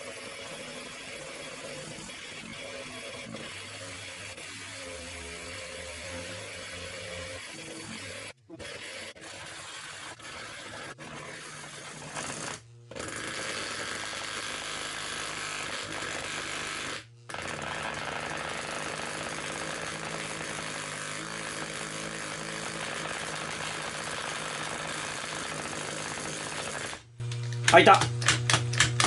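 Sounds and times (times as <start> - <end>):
electric massager buzzing: 0.0 - 29.0.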